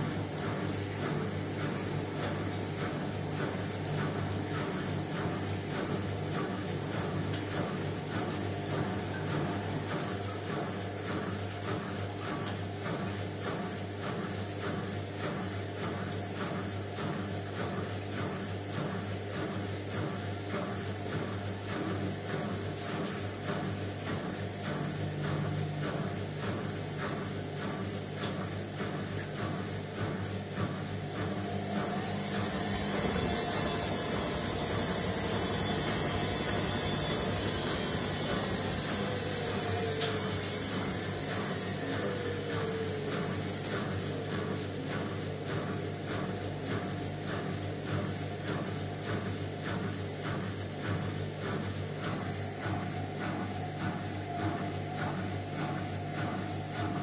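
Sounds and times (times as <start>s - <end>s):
washing machine motor hum: 0.0s - 57.0s
wet towels sloshing in drum: 0.0s - 57.0s.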